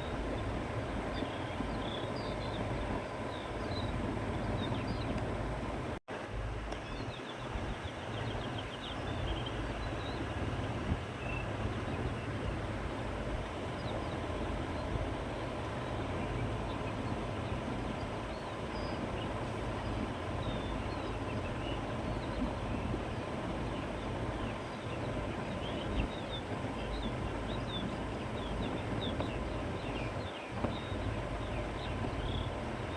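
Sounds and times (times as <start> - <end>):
wind through grass and trees: 0.0 - 32.9.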